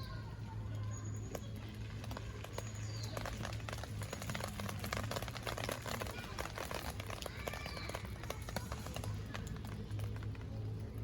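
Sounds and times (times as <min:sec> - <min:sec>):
campfire crackling and popping: 0:01.3 - 0:11.0.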